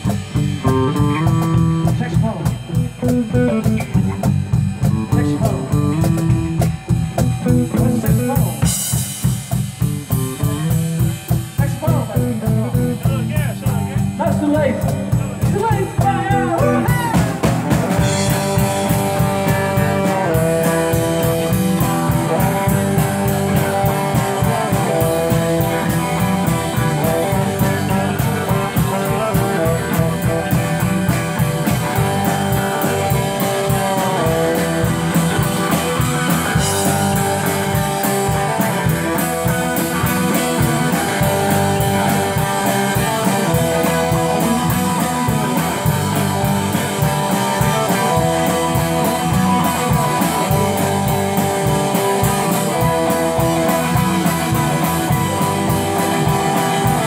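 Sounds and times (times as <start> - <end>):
electric guitar: 0.0 - 57.0
steady drum beat: 0.0 - 57.0.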